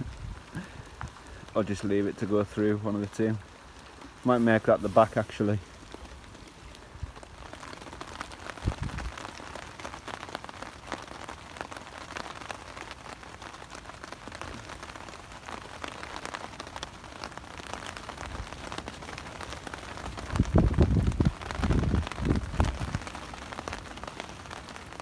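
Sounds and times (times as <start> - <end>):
heavy rain on a tarp: 0.0 - 25.0.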